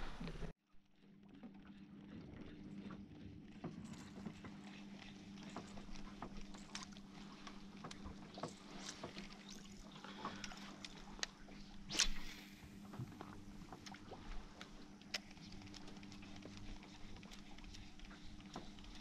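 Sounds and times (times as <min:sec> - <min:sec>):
water lapping: 0:00.0 - 0:19.0
small ticks against hull: 0:00.2 - 0:11.9, 0:12.7 - 0:19.0.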